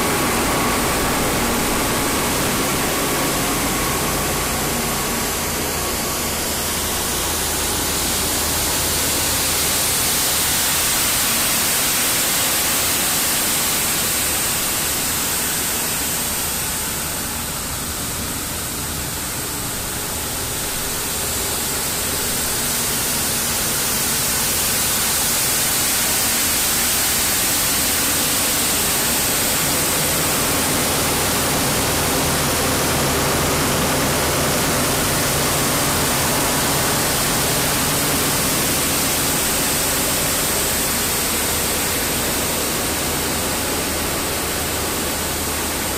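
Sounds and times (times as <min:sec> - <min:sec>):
loud steady rush of air: 0:00.0 - 0:45.9.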